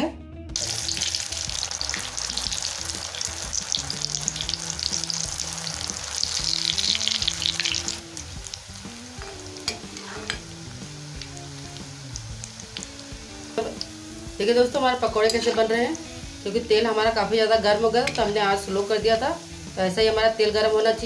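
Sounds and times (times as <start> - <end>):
batter deep-frying in oil: 0.6 - 21.0.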